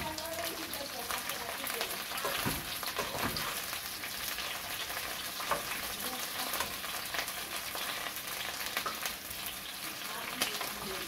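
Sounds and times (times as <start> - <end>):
fritters sizzling in hot oil: 0.0 - 11.0.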